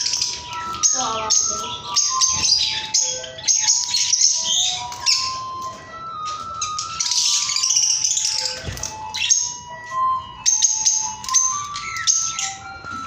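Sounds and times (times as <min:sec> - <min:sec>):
parrot squawking: 0:00.0 - 0:05.5, 0:06.6 - 0:12.6
background music: 0:00.0 - 0:13.0.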